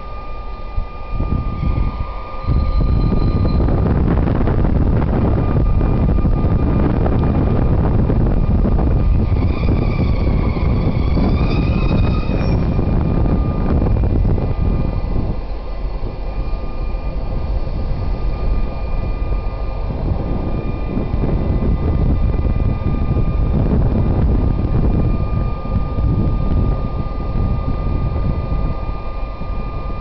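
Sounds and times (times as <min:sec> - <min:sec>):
diesel locomotive engine rumble: 0:00.0 - 0:30.0
steady high whine: 0:00.0 - 0:30.0
wavering high-pitched squeal: 0:00.0 - 0:30.0.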